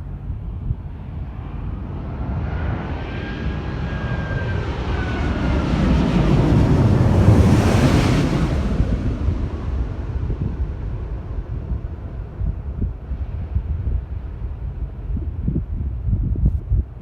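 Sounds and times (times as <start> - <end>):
faint jet engine whine: 0.0 - 17.0
jet airliner engine rumble: 0.0 - 17.0.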